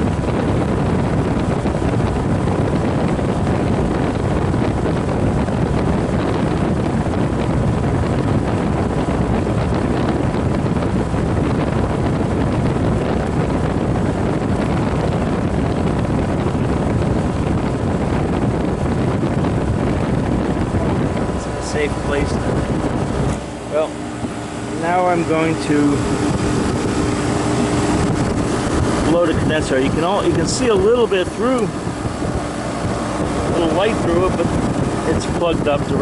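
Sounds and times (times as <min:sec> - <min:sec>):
compressor hum: 0:00.0 - 0:36.0
condenser fan air rush: 0:00.0 - 0:36.0.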